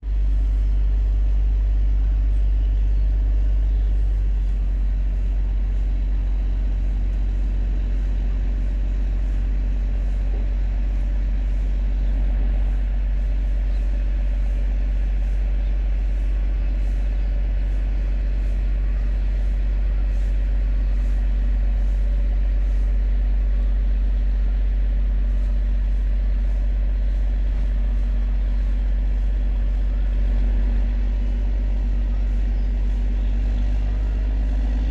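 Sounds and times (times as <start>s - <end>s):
boat engine drone: 0.0s - 34.9s.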